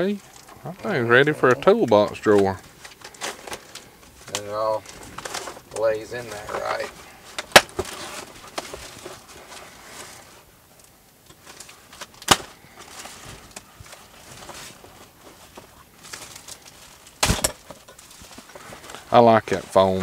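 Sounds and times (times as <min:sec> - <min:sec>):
plastic wrap crinkling: 0:00.0 - 0:20.0.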